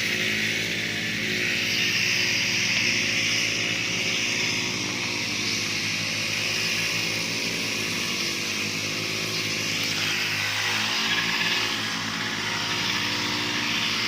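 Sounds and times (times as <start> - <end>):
petrol grass cutters running: 0.0 - 14.0.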